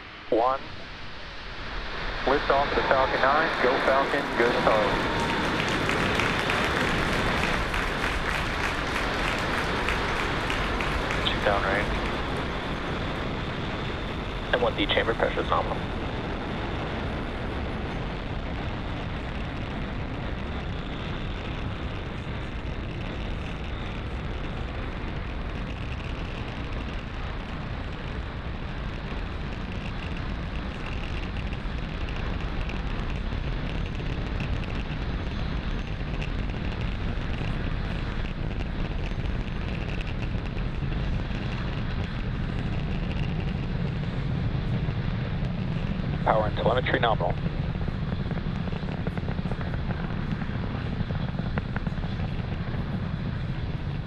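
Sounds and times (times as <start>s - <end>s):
rocket engines roaring: 0.0s - 54.0s.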